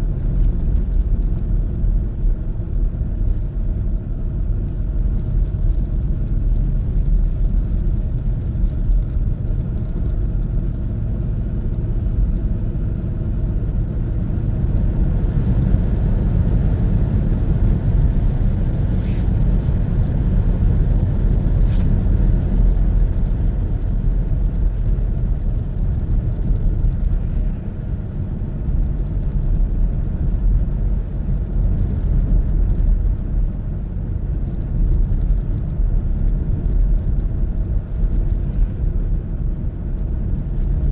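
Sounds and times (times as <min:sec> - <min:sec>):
car engine rumble: 0:00.0 - 0:40.9
tyre road noise: 0:00.0 - 0:40.9.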